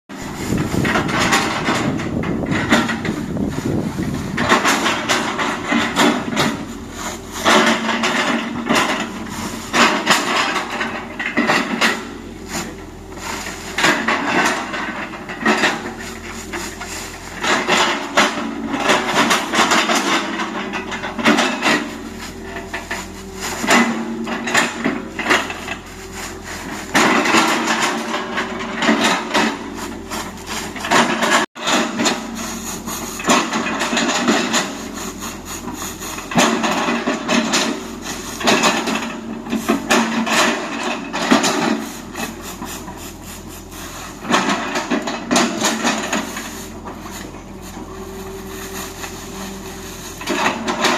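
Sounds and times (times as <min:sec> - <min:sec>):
diesel engine hum: 0:00.1 - 0:50.9.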